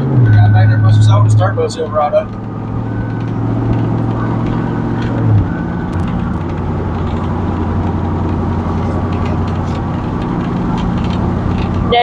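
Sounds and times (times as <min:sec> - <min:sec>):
truck engine and exhaust drone: 0:00.0 - 0:12.0.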